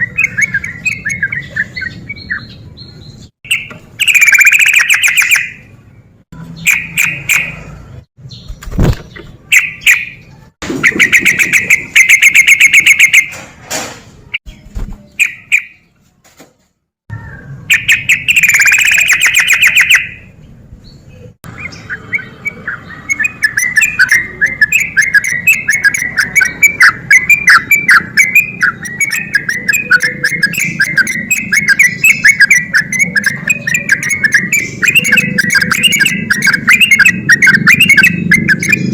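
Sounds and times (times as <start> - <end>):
bulbul singing bubbly calls: 0.0 - 5.7, 6.5 - 7.7, 8.3 - 13.2, 17.2 - 20.3, 21.2 - 38.9.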